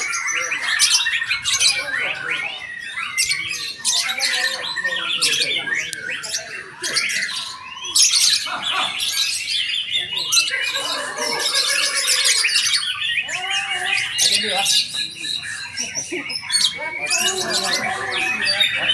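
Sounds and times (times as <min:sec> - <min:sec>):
birds singing whistled phrases: 0:00.0 - 0:18.9.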